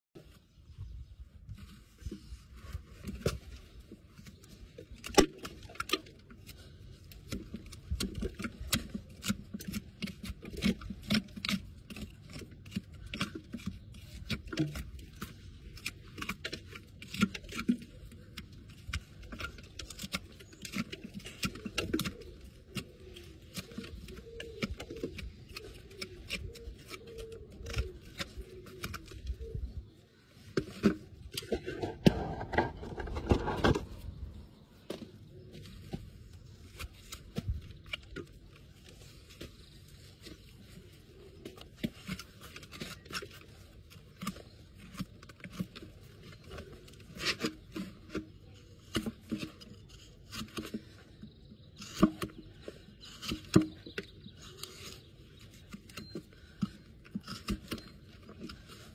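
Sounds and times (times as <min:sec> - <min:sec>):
hoof knife scraping hoof: 0:01.8 - 0:58.9.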